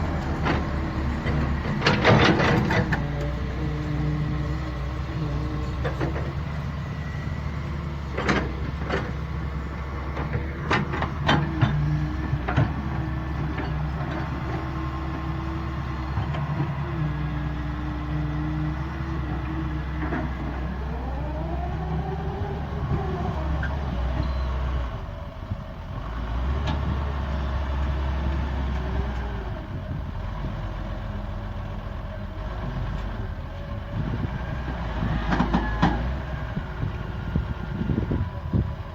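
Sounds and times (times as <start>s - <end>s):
excavator diesel engine under load: 0.0s - 38.9s.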